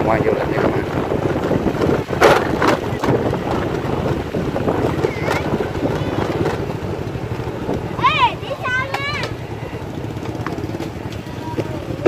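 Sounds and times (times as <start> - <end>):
wind noise on microphone: 0.0 - 12.0
motor scooter engine running: 0.1 - 12.0.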